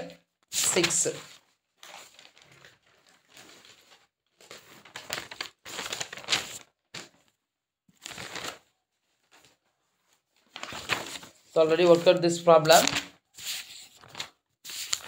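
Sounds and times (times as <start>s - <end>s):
paper rustling and crinkling: 0.4s - 15.0s.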